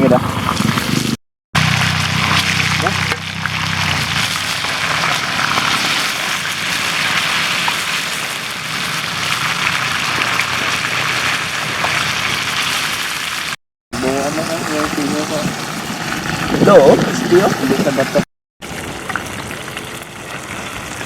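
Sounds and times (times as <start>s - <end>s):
chicken frying in hot oil: 0.2s - 21.0s.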